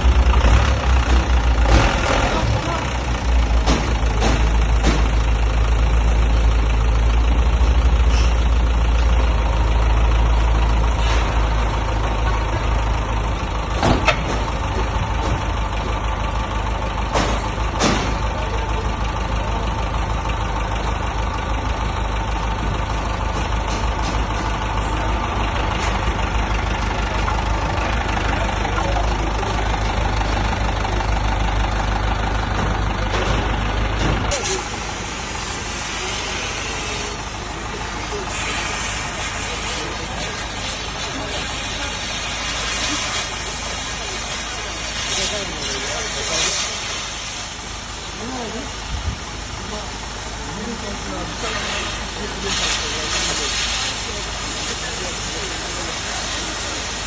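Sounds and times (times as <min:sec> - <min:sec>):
heavy machine engine rumbling: 0:00.0 - 0:57.0.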